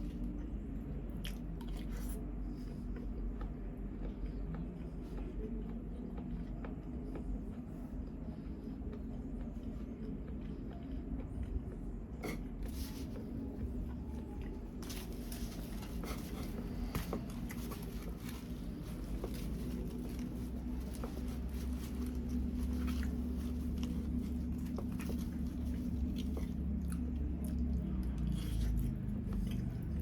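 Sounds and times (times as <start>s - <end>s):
chewing and mouth sounds: 0.0s - 30.0s
steady low hum: 0.0s - 30.0s.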